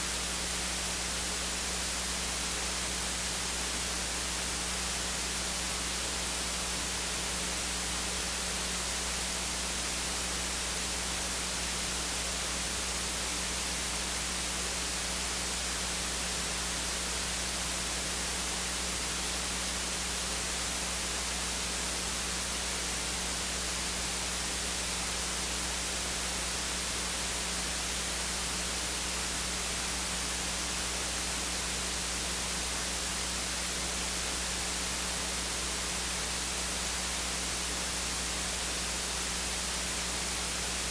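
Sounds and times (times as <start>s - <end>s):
recording static hiss: 0.0s - 40.9s.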